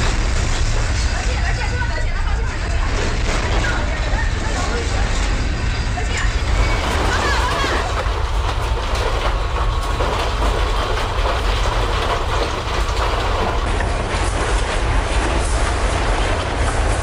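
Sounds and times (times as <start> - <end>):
heavy earthquake rumble: 0.0 - 17.0.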